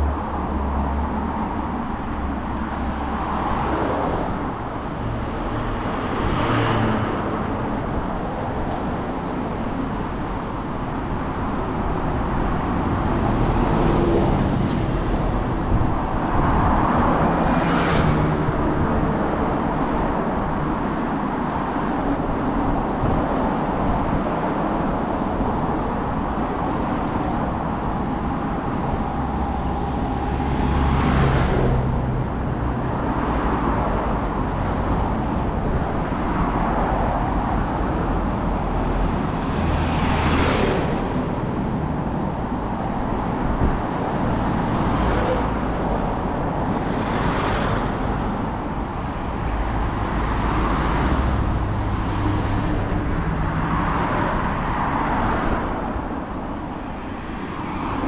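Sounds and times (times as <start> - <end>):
road traffic noise: 0.0 - 58.0
vehicles passing close by: 0.0 - 58.0.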